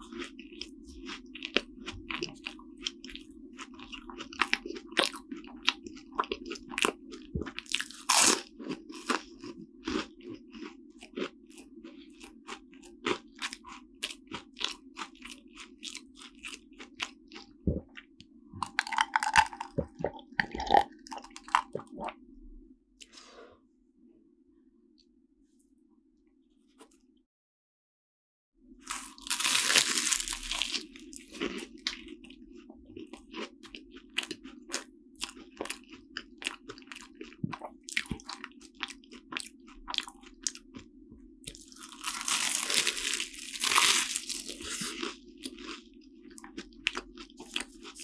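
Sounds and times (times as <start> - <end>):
crunchy chewing of pastry: 0.0 - 22.2, 28.8 - 48.0.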